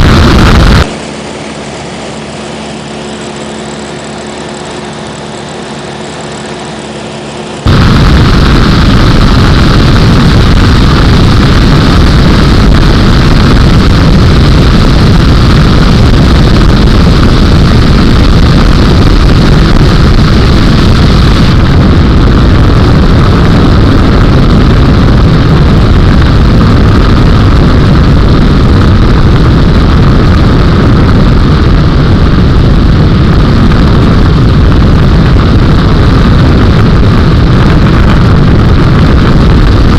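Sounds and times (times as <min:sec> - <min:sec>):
aircraft engine and propeller noise: 0:00.0 - 0:39.9
steady hums: 0:00.0 - 0:39.9.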